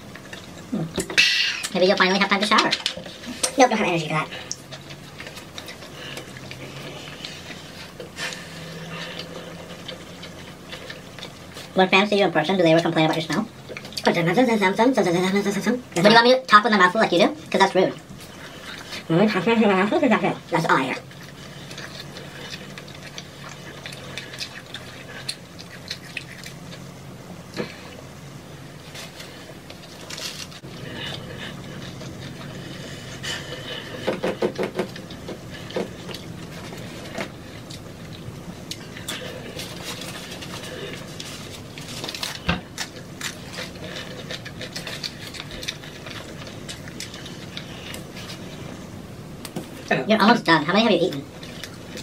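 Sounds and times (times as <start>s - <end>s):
chewing crunchy food: 0.0s - 11.8s, 12.8s - 14.2s, 17.9s - 19.1s, 20.5s - 28.1s, 28.8s - 49.9s, 51.1s - 52.0s
steady low hum: 0.0s - 52.0s.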